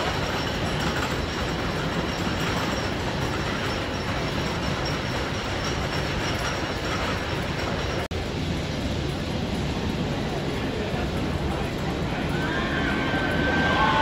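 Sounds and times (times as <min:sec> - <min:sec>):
roller coaster chain lift clatter: 0:00.0 - 0:08.1, 0:09.0 - 0:14.0.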